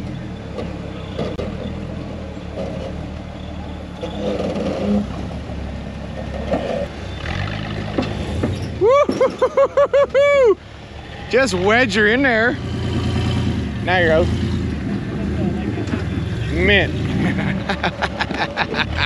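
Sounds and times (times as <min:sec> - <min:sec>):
buggy engine running: 0:00.0 - 0:19.0.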